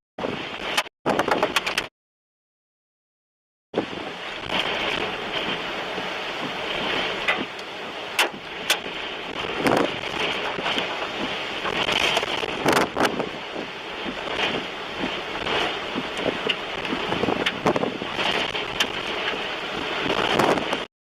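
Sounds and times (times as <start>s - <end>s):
strong wind on microphone: 0.2s - 1.9s, 3.8s - 20.9s.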